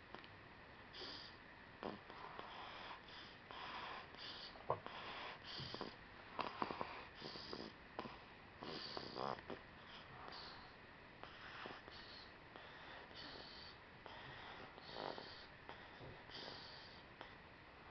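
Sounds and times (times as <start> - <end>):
baby snoring and snuffling: 0.9 - 10.7, 11.3 - 17.0.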